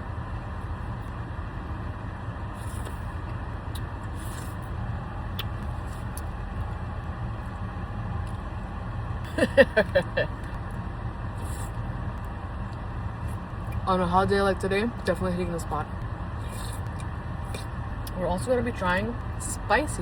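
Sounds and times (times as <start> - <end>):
car interior engine rumble: 0.0 - 20.0.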